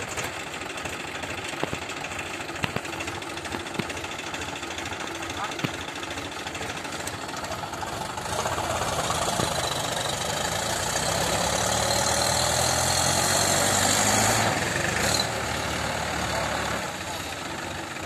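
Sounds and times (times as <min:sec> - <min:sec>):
tractor diesel engine straining: 0:00.0 - 0:18.0.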